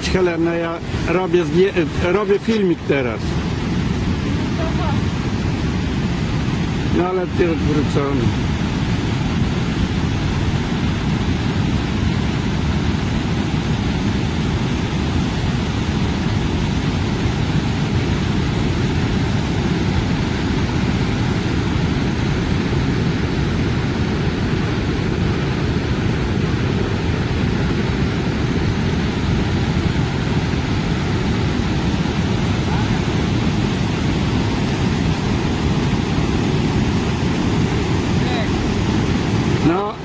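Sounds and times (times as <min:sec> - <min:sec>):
whitewater rushing over rocks: 0:00.0 - 0:40.0.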